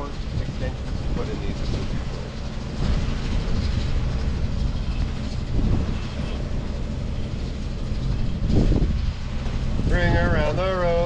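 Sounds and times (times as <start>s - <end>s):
machine engine rumbling: 0.0s - 11.0s.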